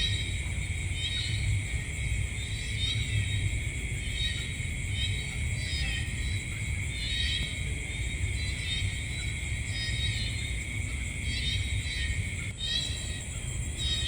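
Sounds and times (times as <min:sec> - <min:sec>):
insect chirping calls: 0:00.0 - 0:14.0
insects trilling: 0:00.0 - 0:14.0.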